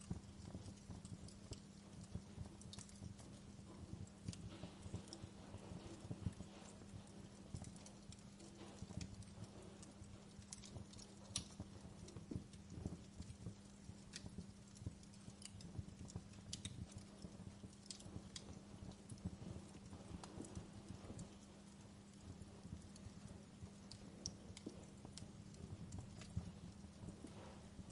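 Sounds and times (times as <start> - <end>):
soft low rumble: 0.0 - 27.9
steady low hum: 0.0 - 27.9
wood fire crackling: 0.0 - 27.9.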